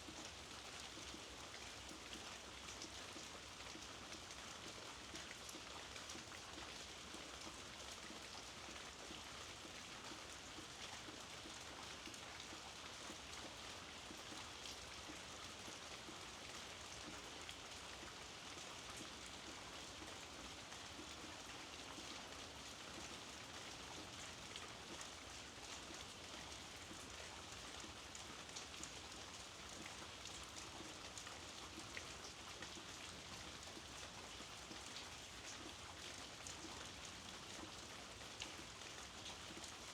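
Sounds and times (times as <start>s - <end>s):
soft rain pattering: 0.0s - 39.9s.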